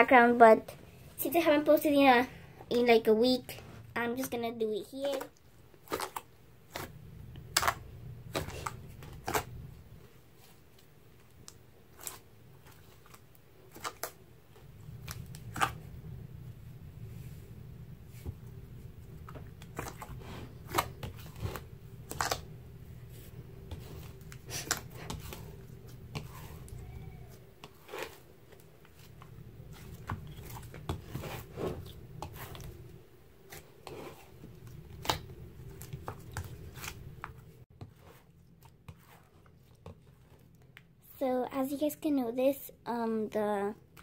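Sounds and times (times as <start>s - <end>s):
slime squelching when kneaded: 0.0s - 16.2s, 18.0s - 44.0s.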